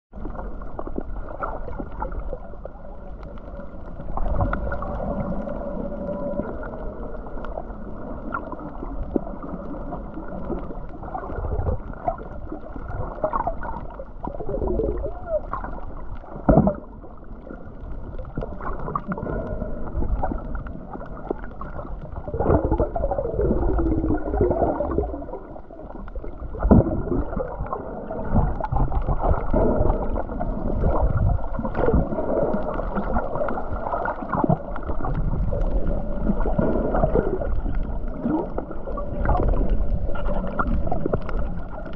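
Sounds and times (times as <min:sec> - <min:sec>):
water sloshing and gurgling: 0:00.1 - 0:41.9.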